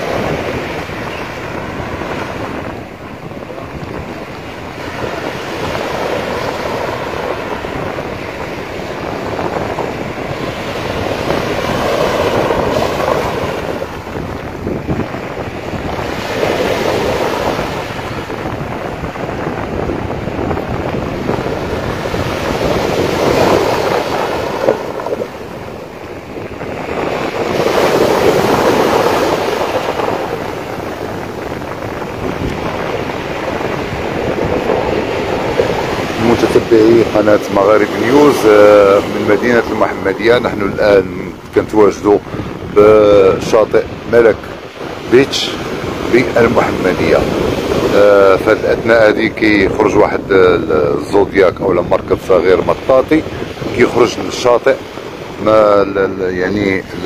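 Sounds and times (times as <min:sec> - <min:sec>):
waves washing onto beach: 0:00.0 - 0:57.0
wind buffeting microphone: 0:00.0 - 0:57.0.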